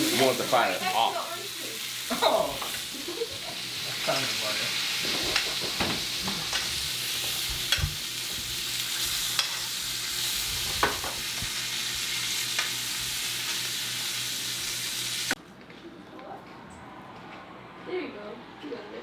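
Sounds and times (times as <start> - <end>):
steak sizzling in a pan: 0.0 - 15.4.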